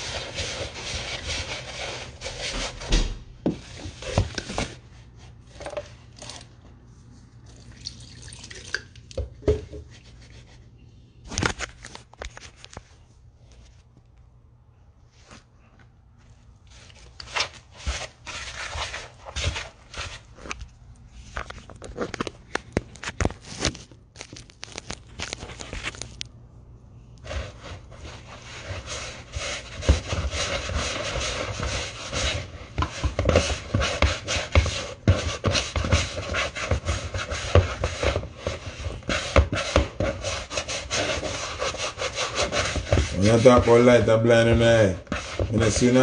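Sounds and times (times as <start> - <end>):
hands kneading dough in a bowl: 0.0 - 14.1, 15.0 - 26.2, 27.2 - 46.0.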